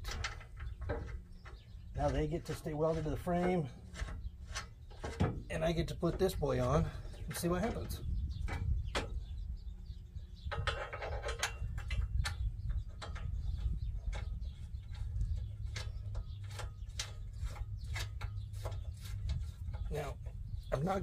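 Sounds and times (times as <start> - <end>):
metal scraping: 0.0 - 9.1, 10.4 - 21.0.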